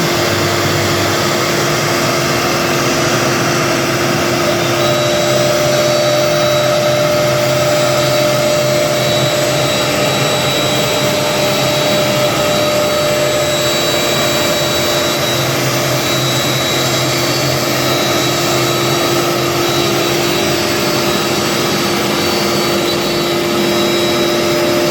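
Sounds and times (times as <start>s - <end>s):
bit milling wood: 0.0s - 24.9s
router spindle whine: 0.0s - 24.9s.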